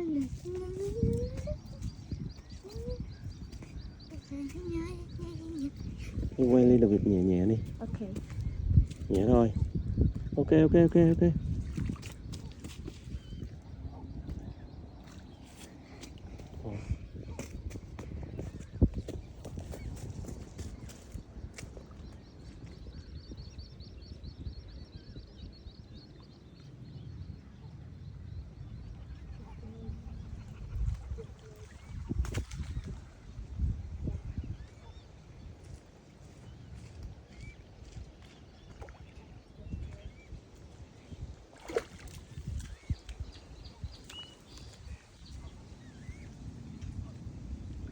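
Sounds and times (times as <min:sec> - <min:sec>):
low rumble of wind: 0:00.0 - 0:47.9.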